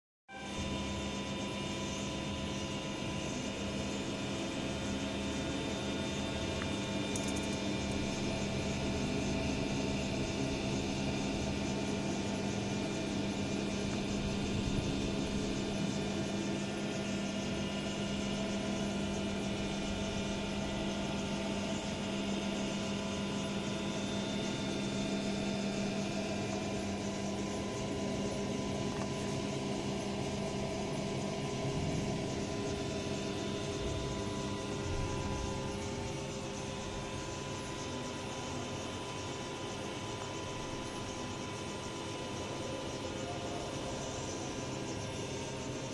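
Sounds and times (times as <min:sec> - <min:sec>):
three d printer humming: 0:00.4 - 0:45.9.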